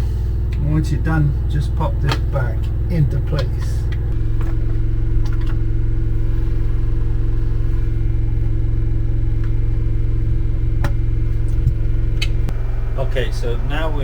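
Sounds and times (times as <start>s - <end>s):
washing machine spinning: 0.0s - 14.0s.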